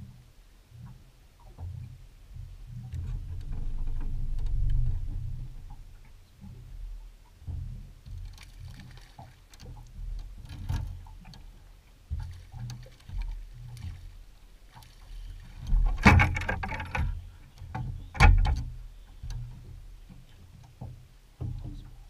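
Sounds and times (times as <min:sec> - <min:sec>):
water splashing: 0:02.4 - 0:22.0.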